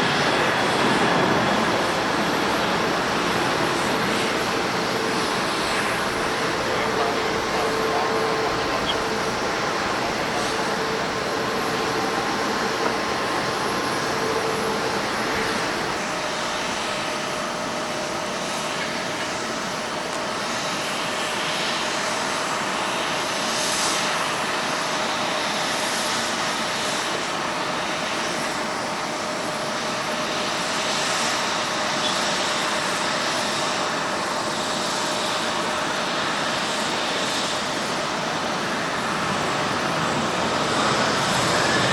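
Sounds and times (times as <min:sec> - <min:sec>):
faint engine whine: 0:00.0 - 0:41.9
jet engines running: 0:00.0 - 0:41.9.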